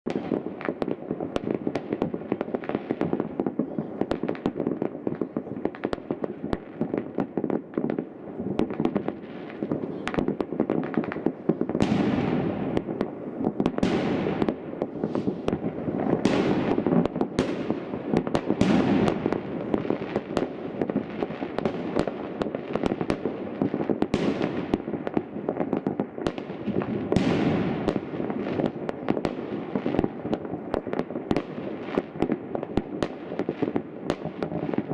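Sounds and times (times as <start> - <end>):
rapid crackling of fireworks: 0.0 - 34.9.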